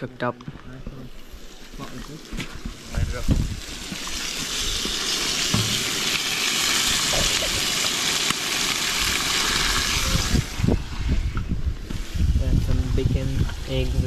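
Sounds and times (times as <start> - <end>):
food sizzling in a pan: 1.1 - 14.0.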